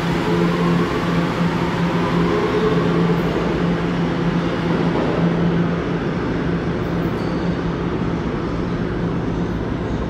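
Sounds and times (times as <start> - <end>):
subway train rumbling: 0.0 - 10.0.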